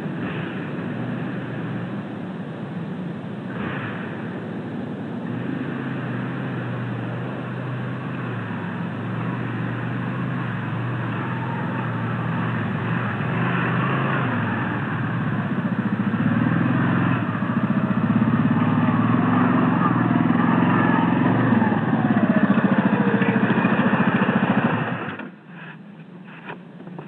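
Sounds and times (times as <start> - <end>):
vehicle engine approaching: 0.0 - 25.5.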